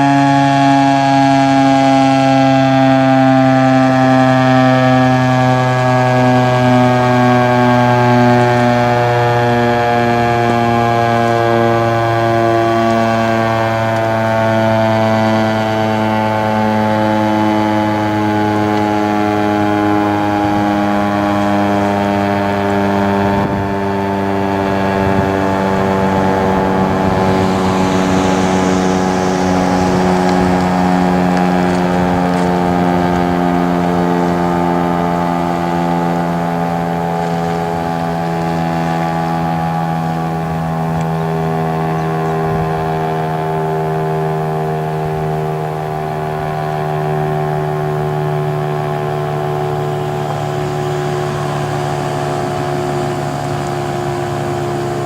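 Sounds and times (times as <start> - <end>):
warning siren winding down: 0.0 - 55.0.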